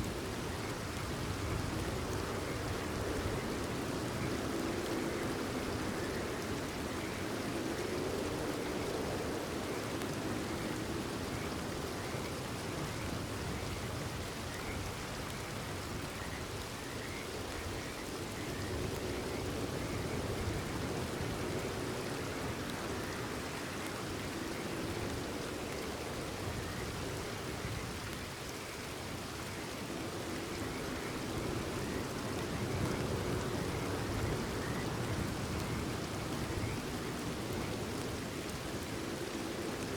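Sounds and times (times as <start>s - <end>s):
frogs calling faintly: 0.0s - 39.9s
steady rainfall: 0.0s - 39.9s.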